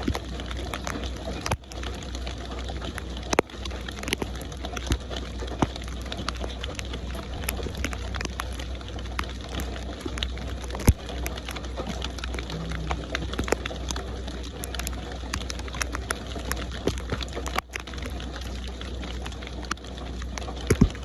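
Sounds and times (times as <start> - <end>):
low steady rumble: 0.0 - 21.0
rain drops ticking on a surface: 0.0 - 21.0.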